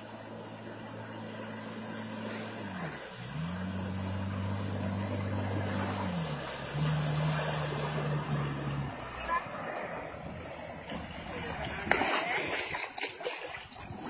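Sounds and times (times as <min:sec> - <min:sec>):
jet ski engine running: 0:00.0 - 0:12.9.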